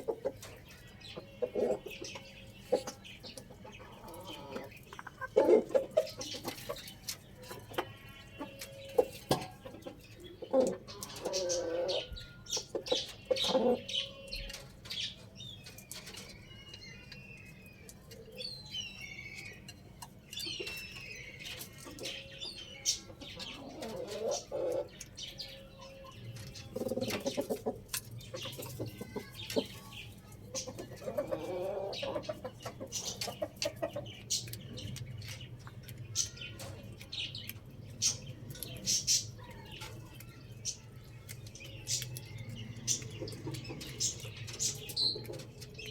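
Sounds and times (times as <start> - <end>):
chickens clucking: 0.0 - 45.9
small birds chirping: 0.0 - 45.9.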